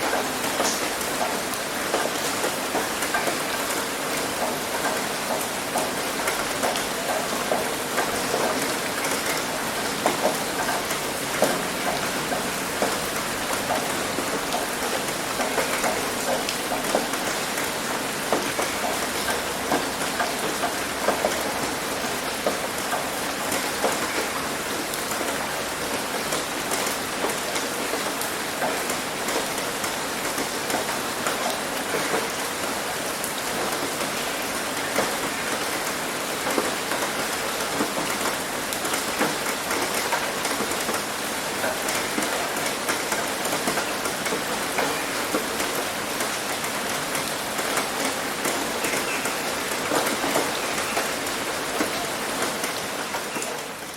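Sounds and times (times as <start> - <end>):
rain falling on a roof: 0.0 - 53.9.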